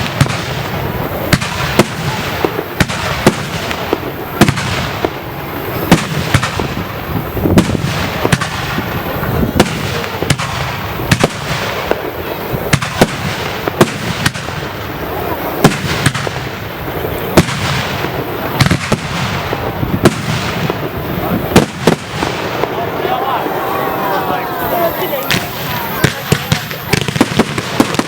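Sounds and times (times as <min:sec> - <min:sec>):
crackling hiss: 0:00.0 - 0:28.0
fireworks bangs: 0:00.0 - 0:28.0.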